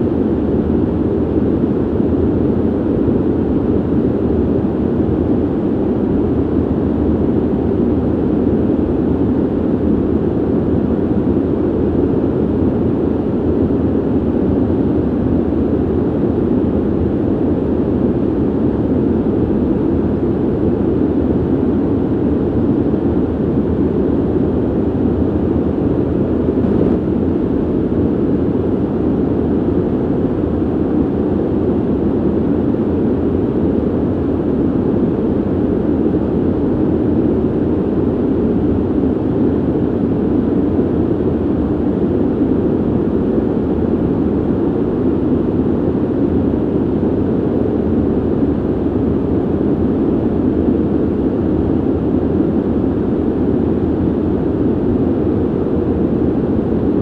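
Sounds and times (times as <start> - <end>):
ventilation air rushing: 0.0 - 57.0.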